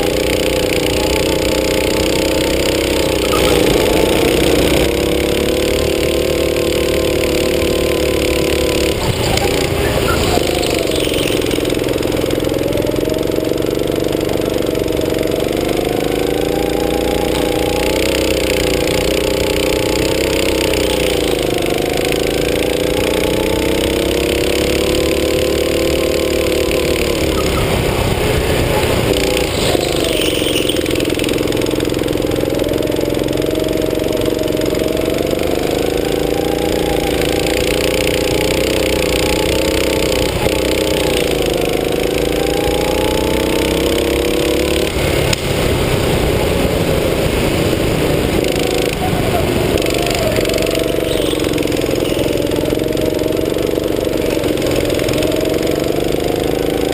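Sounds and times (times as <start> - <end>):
go-kart engine running hard: 0.0 - 56.9.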